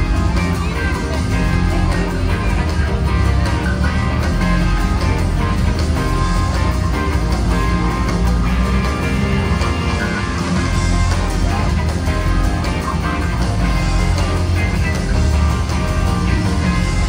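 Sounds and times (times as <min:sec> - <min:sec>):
electric guitar: 0:00.0 - 0:17.0
live rock band playing loudly: 0:00.0 - 0:17.0.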